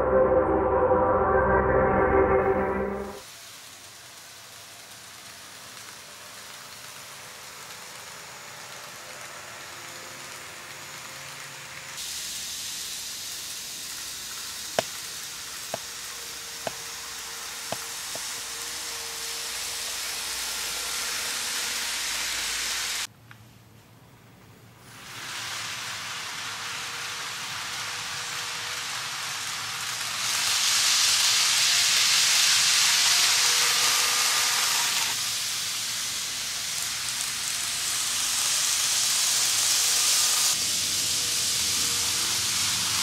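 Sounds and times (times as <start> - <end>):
model trains rumbling on track: 3.2 - 23.1, 24.8 - 43.0.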